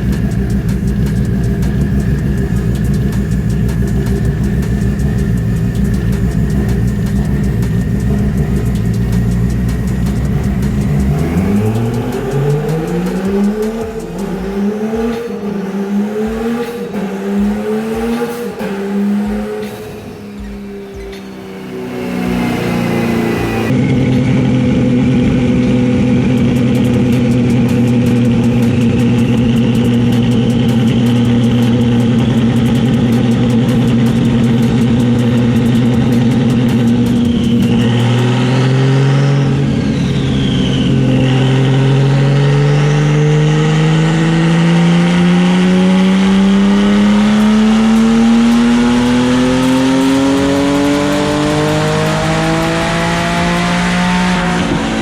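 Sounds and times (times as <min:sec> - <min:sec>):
car engine revving on dyno: 0:00.0 - 0:55.0.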